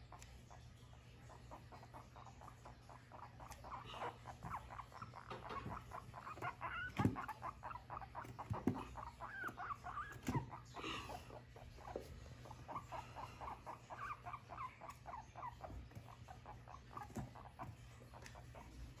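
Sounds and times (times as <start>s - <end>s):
guinea pig squeaking: 0.0s - 19.0s.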